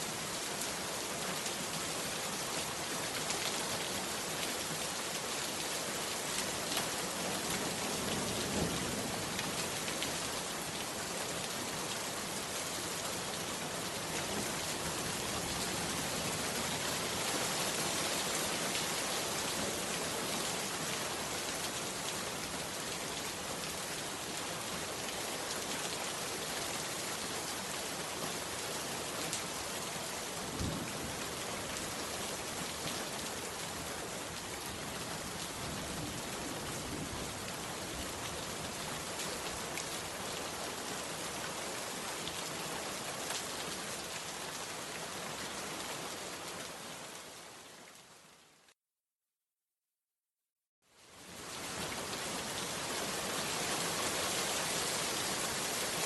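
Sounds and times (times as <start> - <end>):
heavy rain on a hut: 0.0 - 48.8, 50.8 - 56.0.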